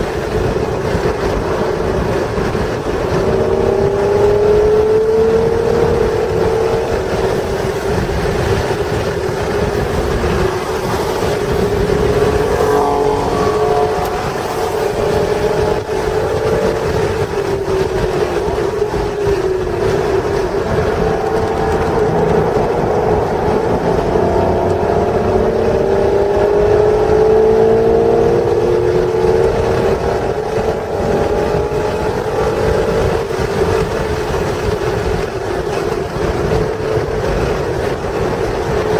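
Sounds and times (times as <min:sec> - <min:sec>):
car engine accelerating: 0:00.0 - 0:38.9
wind and tyre noise: 0:00.0 - 0:38.9.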